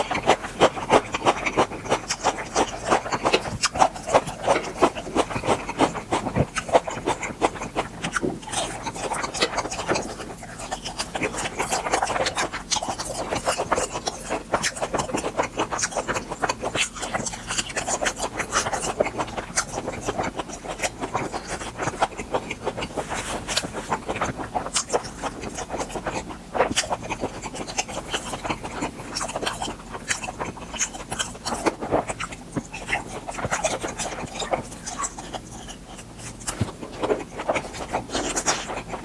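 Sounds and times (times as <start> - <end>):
chewing with mouth clicks: 0.0 - 39.0.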